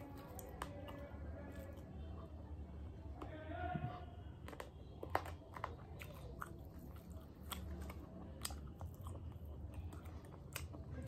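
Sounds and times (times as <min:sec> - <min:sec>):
person chewing: 0:00.0 - 0:03.3, 0:04.4 - 0:11.0.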